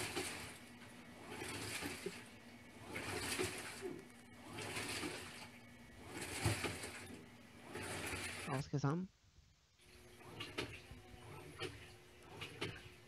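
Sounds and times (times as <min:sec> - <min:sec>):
water churning and sloshing: 0:00.0 - 0:08.6, 0:09.8 - 0:13.0
faint motor hum: 0:00.0 - 0:13.0.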